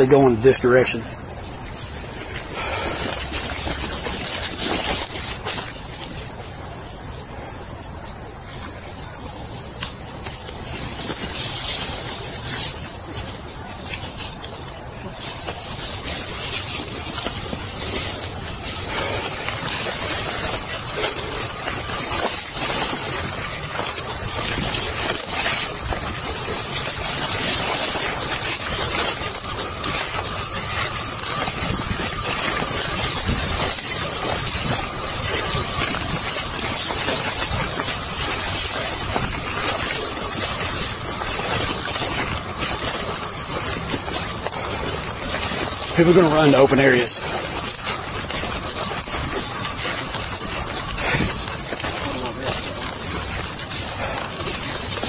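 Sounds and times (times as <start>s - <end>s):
footsteps through undergrowth: 0.0s - 55.0s
rustle of brush and clothing: 0.0s - 55.0s
steady hiss: 0.0s - 55.0s.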